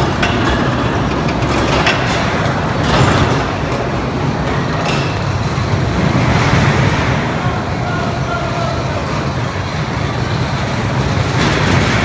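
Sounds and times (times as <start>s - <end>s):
toy roller coaster wheels rumbling: 0.0s - 12.0s.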